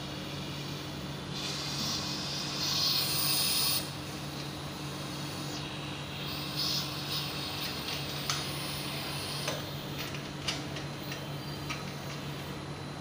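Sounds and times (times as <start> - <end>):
refrigerant gas hissing: 0.0 - 12.7
air conditioner unit humming: 0.0 - 13.0.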